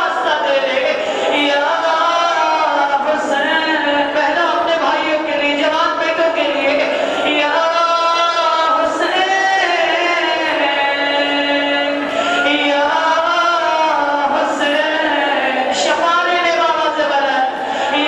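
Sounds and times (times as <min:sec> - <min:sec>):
devotional chanting: 0:00.0 - 0:18.0.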